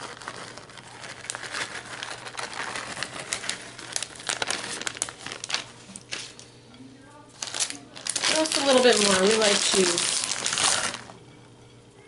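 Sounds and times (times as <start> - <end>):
plastic bag crinkling: 0.0 - 6.5, 7.3 - 11.2.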